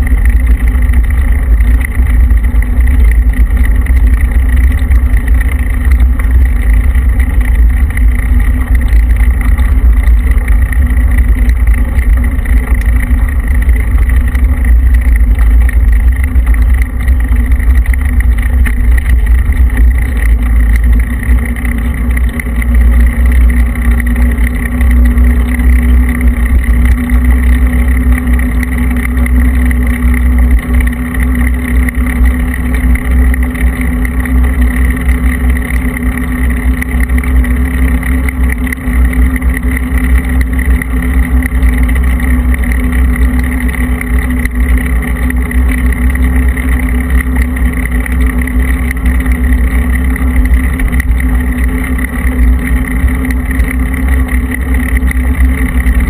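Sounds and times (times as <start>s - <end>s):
steady hum: 0.0s - 56.0s
tyre and road noise: 0.0s - 56.0s
wind rumble on microphone: 0.0s - 56.0s.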